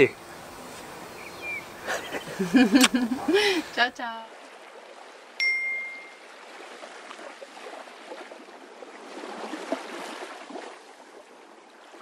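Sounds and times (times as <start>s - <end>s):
water lapping and trickling: 0.0s - 12.0s.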